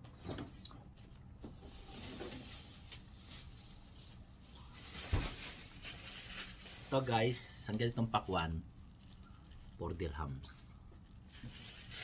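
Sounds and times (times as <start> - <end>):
plastic bag and cling film rustling: 1.0 - 12.0.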